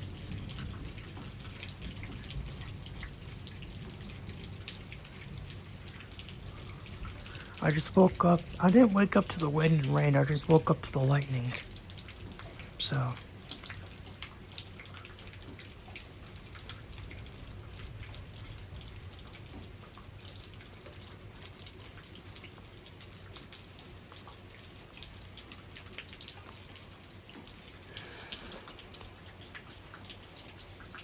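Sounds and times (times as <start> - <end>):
rain drops pattering: 0.0 - 31.0.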